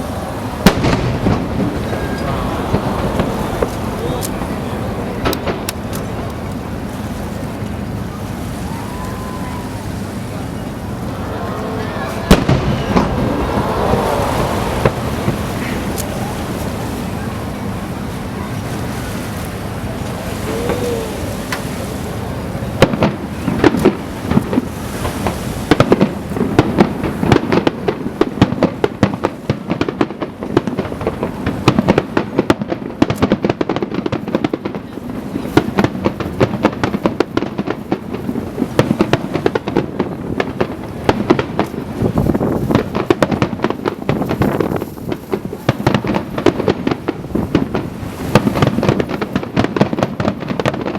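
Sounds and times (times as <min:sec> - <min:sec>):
fireworks cracks and booms: 0:00.0 - 0:07.1, 0:10.8 - 0:17.7, 0:22.6 - 0:50.9.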